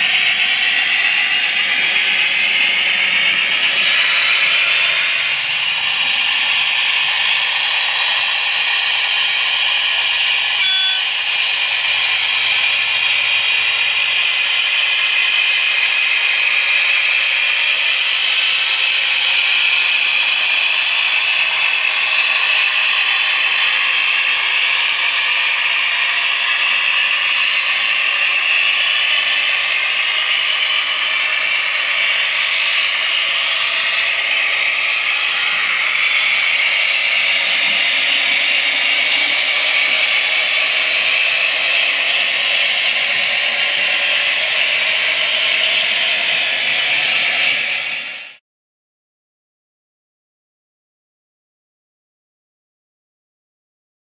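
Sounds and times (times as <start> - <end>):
model trains rattling on track: 0.0 - 48.4.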